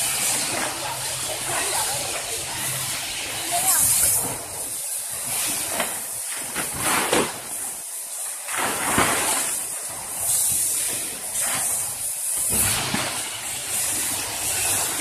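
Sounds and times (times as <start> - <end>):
plastic tarpaulin crinkling: 0.0 - 15.0.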